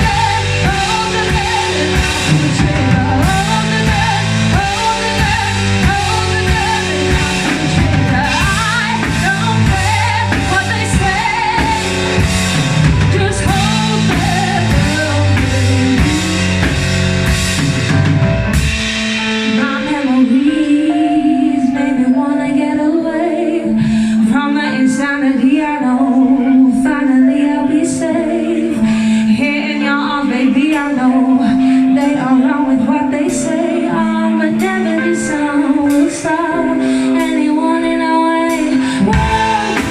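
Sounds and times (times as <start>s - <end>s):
person singing: 0.0s - 12.4s, 13.0s - 17.0s, 19.4s - 39.9s
drum kit: 0.0s - 21.0s, 27.9s - 39.9s
live rock band playing: 0.0s - 39.9s.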